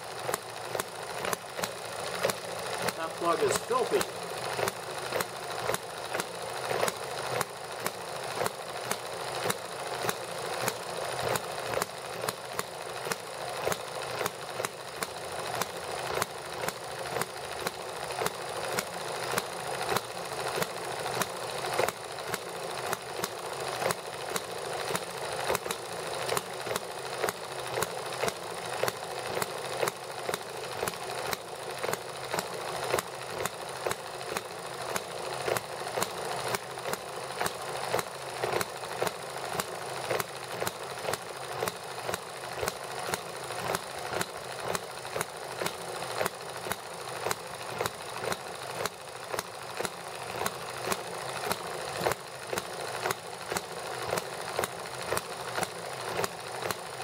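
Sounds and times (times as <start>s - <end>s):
small gasoline engine popping: 0.0s - 57.0s.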